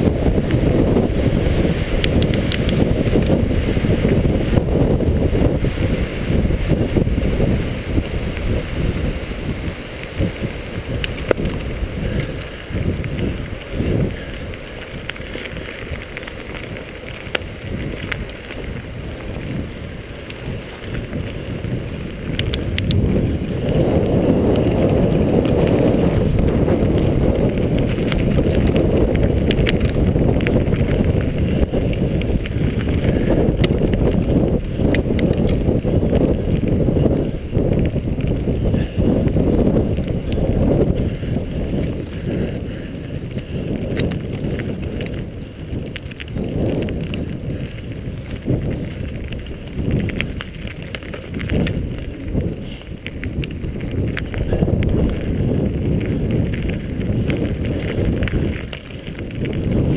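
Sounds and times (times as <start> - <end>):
bike rattles and clicks: 0.0 - 59.9
bike tyre rumble: 0.0 - 59.9
wind buffeting microphone: 0.0 - 59.9.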